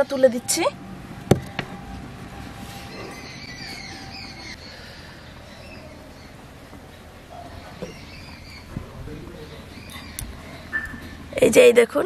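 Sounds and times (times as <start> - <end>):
birds chirping faintly: 0.0 - 11.4.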